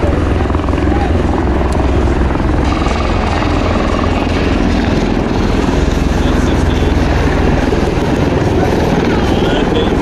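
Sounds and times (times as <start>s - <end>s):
tiltrotor aircraft rotor noise: 0.0s - 10.0s.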